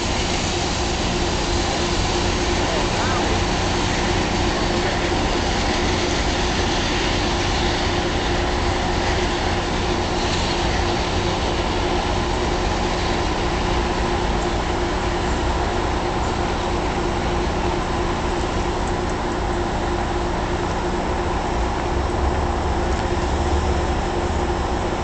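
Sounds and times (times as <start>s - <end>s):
diesel locomotive hum: 0.0s - 25.0s.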